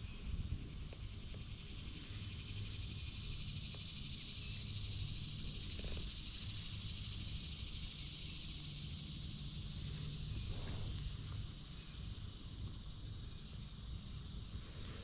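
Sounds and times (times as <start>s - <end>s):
cicadas buzzing: 0.0s - 15.0s
low steady hum: 0.0s - 15.0s.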